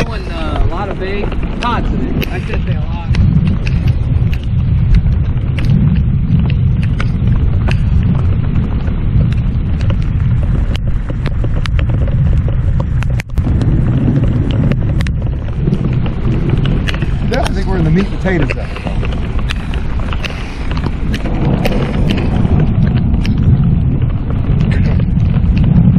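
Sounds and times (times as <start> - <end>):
raindrops ticking on camera: 0.0 - 25.9
wind buffeting microphone: 0.0 - 25.9.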